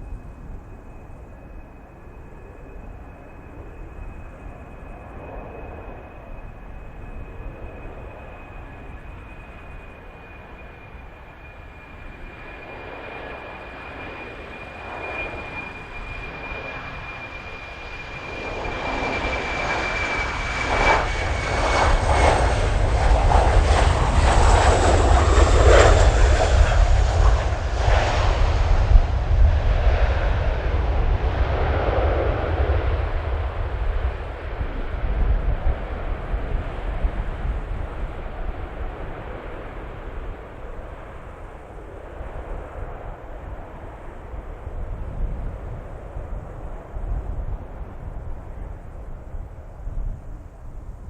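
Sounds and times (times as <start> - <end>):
deep jet engine roar with crackle: 0.0 - 51.0
jet engine whine: 0.0 - 51.0.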